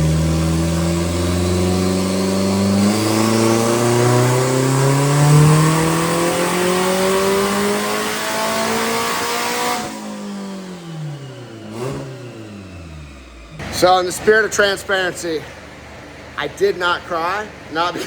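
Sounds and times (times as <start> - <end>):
race car engine revving: 0.0 - 16.4.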